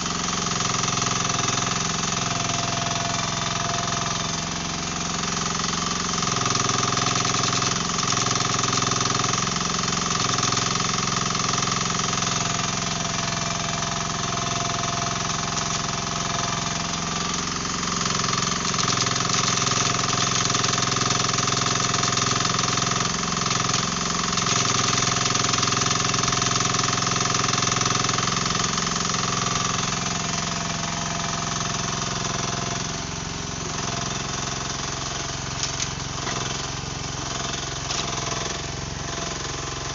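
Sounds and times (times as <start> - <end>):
diesel engine running under load: 0.0 - 39.9
hydraulic breaker hammering concrete: 0.0 - 39.9.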